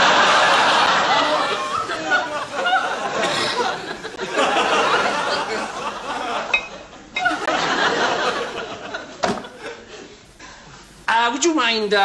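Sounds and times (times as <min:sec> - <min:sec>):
studio audience laughing: 0:00.0 - 0:10.3.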